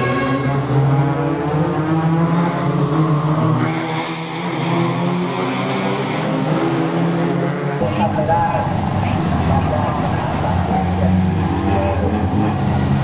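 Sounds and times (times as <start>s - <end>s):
racing car engines: 0.0s - 13.0s.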